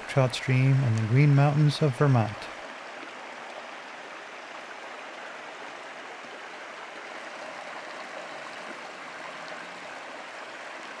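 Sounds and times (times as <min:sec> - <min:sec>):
brook running over stones: 0:00.0 - 0:11.0.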